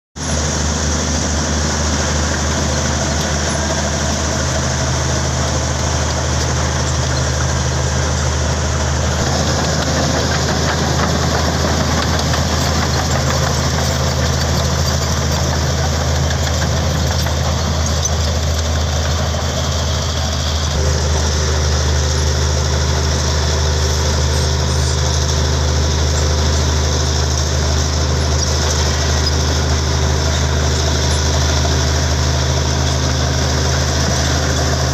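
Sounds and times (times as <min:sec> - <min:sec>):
bulldozer diesel engine droning: 0:00.2 - 0:34.9.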